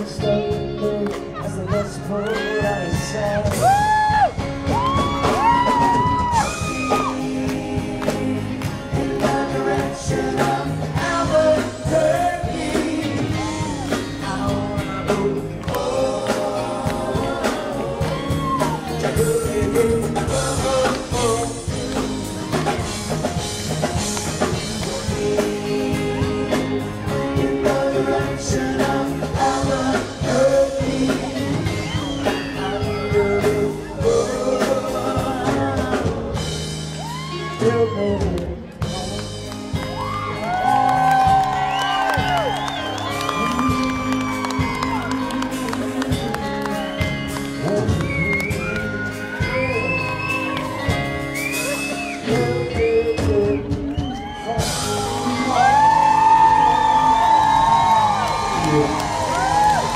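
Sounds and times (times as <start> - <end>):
lead singer singing: 0.0 - 22.9, 24.2 - 38.9, 40.0 - 59.9
live band music: 0.0 - 59.9.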